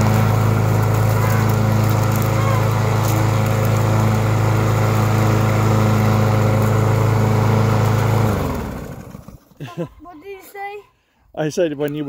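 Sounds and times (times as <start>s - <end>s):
lawn mower engine running: 0.0s - 9.8s.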